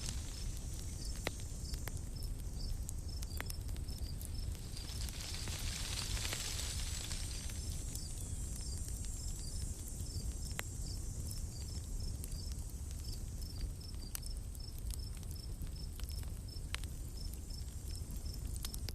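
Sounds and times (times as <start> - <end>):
campfire crackling pops: 0.0 - 18.9.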